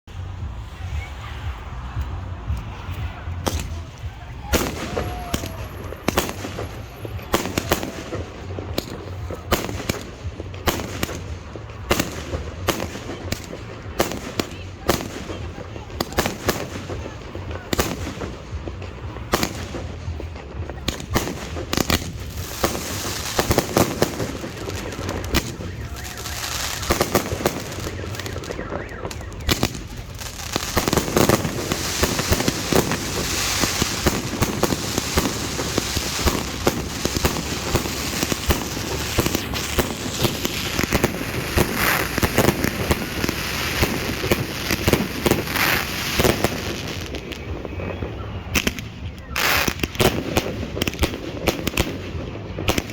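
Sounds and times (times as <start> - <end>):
fireworks bangs and crackling: 0.1 - 52.9.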